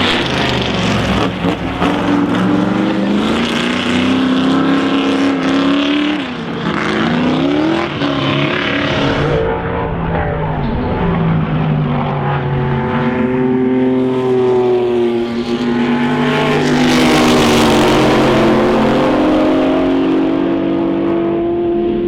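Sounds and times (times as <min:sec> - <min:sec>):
racing car engine passing: 0:00.0 - 0:22.0.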